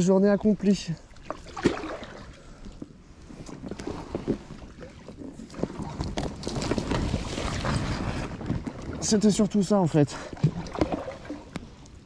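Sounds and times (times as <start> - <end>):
twigs rustling against boat: 0.0 - 11.9
paddle strokes in water: 1.2 - 9.4, 10.2 - 11.8.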